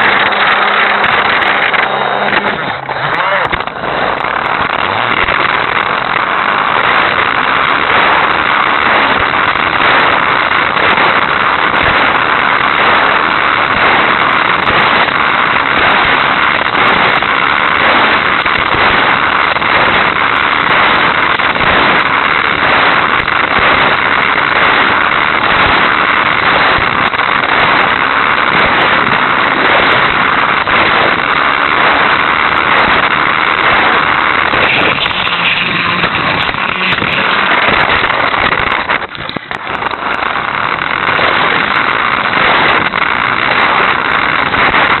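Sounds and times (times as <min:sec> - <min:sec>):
small electric motor whining: 0:00.0 - 0:45.0.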